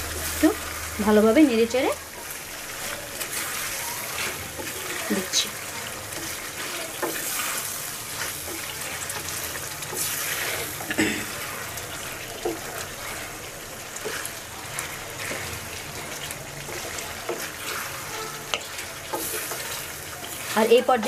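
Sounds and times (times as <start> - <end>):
curry bubbling and sizzling: 0.0 - 21.0
wooden spatula scraping pot: 1.7 - 21.0.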